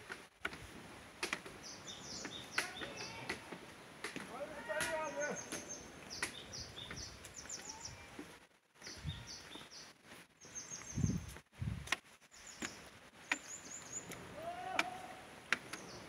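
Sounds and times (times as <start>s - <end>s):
small birds chirping: 1.2s - 16.0s.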